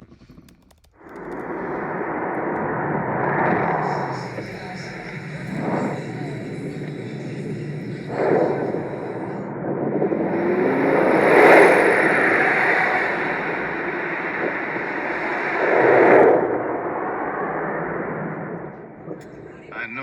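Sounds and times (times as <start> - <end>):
passing vehicle rush: 1.4 - 19.2.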